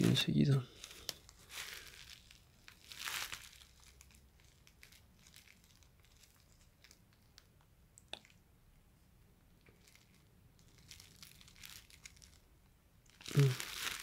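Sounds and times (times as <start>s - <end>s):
plastic crinkling rustle: 0.0s - 7.5s, 9.6s - 12.5s, 13.1s - 14.0s.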